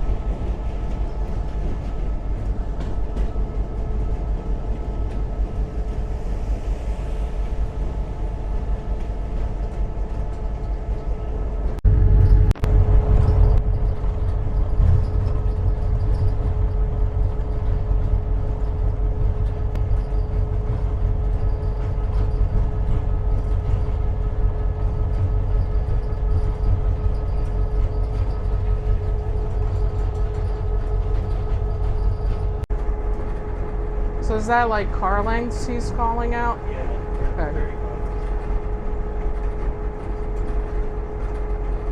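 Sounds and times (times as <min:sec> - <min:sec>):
constant whine: 0:00.0 - 0:41.9
locomotive engine rumbling: 0:00.0 - 0:41.9.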